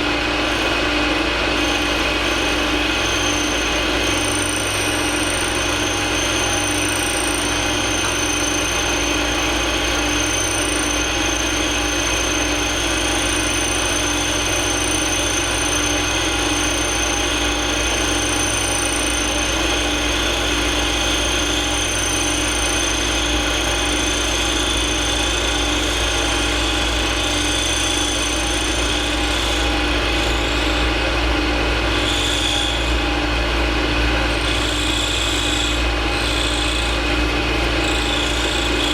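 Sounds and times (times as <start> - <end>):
milling machine cutting brass: 0.1 - 31.0, 31.8 - 38.9.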